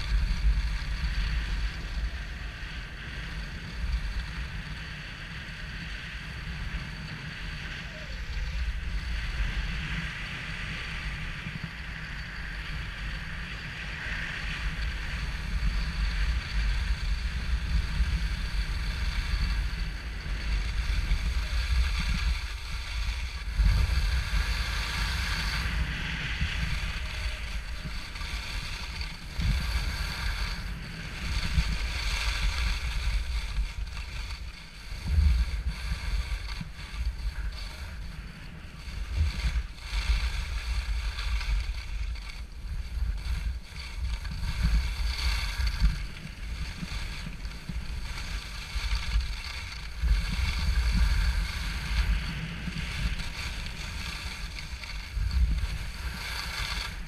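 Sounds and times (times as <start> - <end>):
skis sliding on snow: 0.0 - 57.0
wind buffeting microphone: 0.0 - 57.0.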